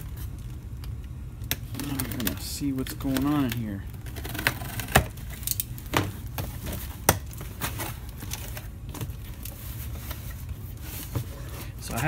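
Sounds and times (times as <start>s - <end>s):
cardboard rustling and scraping: 1.7s - 12.0s.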